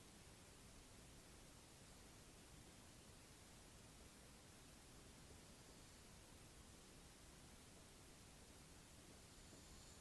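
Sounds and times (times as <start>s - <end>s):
faint high whine: 0.0s - 10.0s
room tone hiss: 0.0s - 10.0s.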